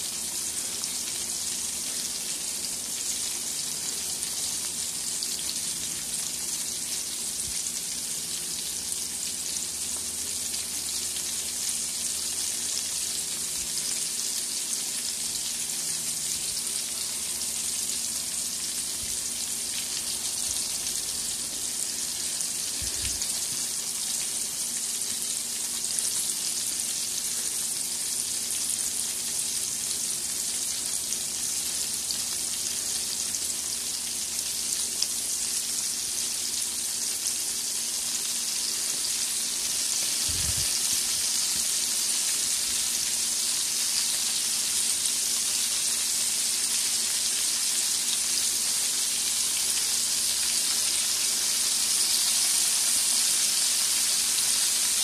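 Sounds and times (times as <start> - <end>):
fish sizzling in hot oil: 0.0 - 55.0.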